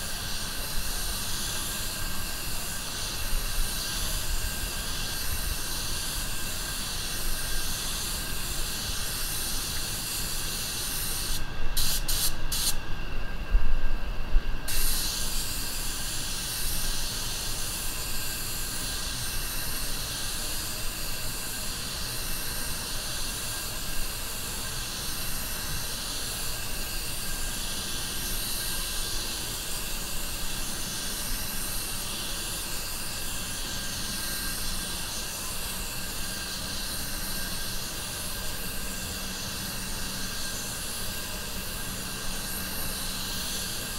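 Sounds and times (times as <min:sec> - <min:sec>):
spray gun hissing: 0:00.0 - 0:12.8, 0:14.7 - 0:43.9.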